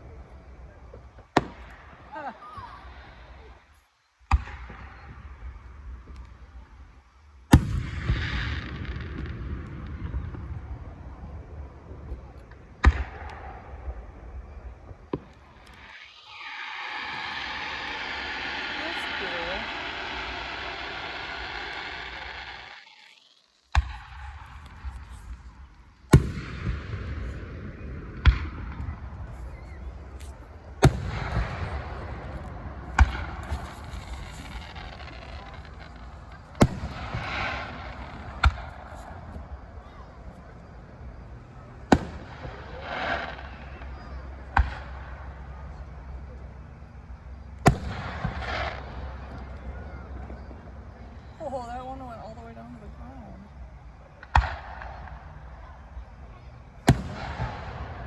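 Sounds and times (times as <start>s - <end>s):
fireworks bursting with loud bangs: 0.0s - 58.0s
rumble and crackle: 0.0s - 58.0s.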